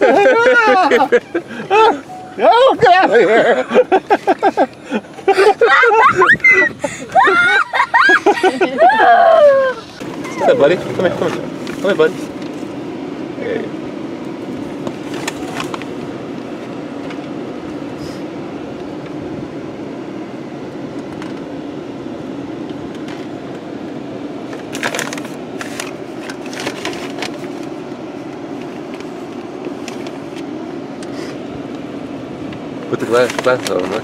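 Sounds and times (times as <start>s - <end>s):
car cabin engine hum: 0.0s - 34.0s.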